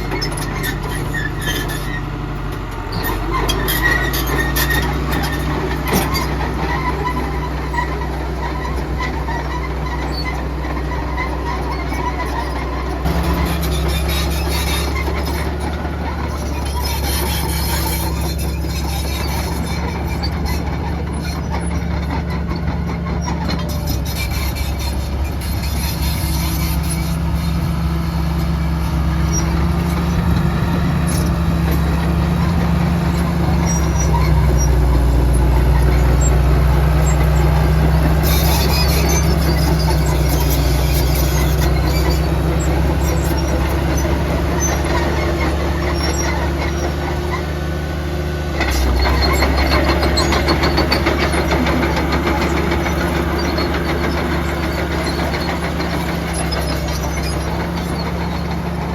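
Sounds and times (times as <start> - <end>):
heavy diesel machinery running: 0.0 - 58.9.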